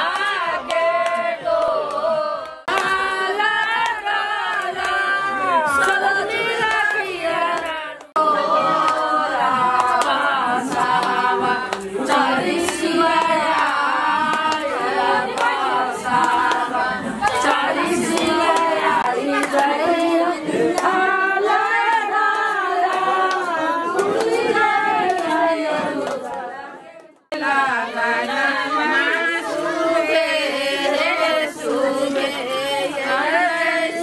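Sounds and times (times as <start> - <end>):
women singing together: 0.0 - 34.0.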